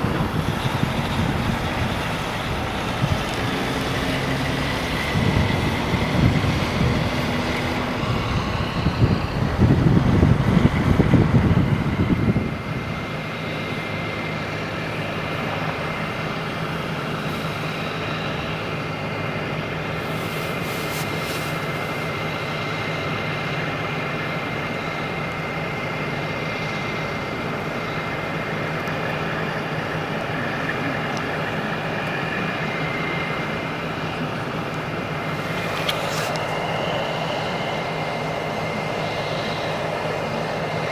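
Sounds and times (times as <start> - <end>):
diesel engines idling: 0.0 - 40.9
high whine: 0.0 - 40.9.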